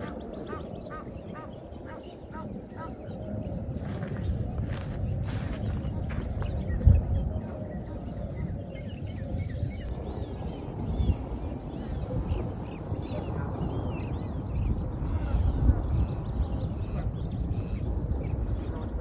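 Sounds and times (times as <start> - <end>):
low rumbling noise: 0.0 - 19.0
small birds chirping: 0.0 - 19.0.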